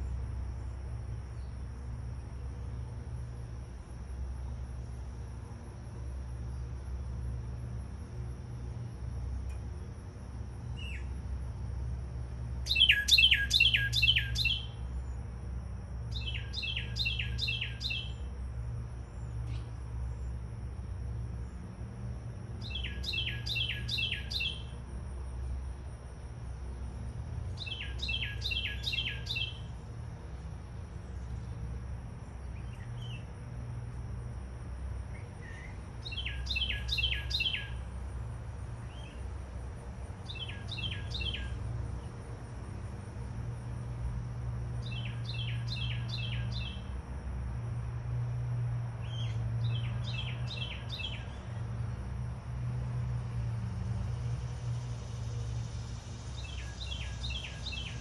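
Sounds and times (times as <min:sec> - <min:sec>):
songbird singing: 0:00.0 - 0:47.2, 0:48.9 - 0:52.2, 0:53.2 - 0:58.0
faint high-pitched hum: 0:00.0 - 0:58.0.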